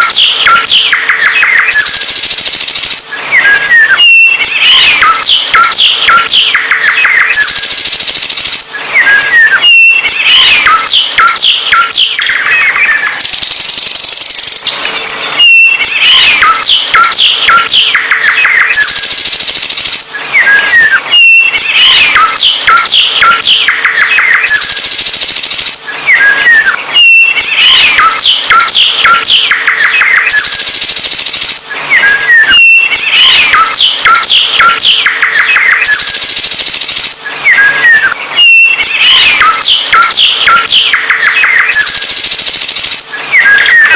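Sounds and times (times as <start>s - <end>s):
songbird singing: 0.0s - 42.2s, 42.8s - 43.9s.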